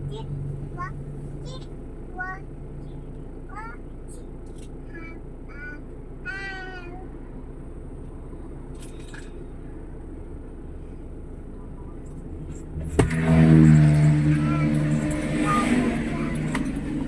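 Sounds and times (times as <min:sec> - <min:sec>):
loud steady low hum: 0:00.0 - 0:17.0
vehicle rumbling while moving: 0:00.0 - 0:17.0.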